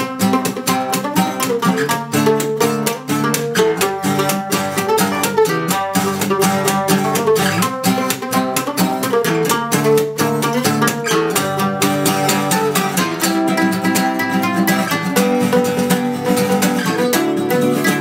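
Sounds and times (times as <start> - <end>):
picked mandolin notes: 0.0 - 18.0
strummed acoustic guitar: 0.0 - 18.0.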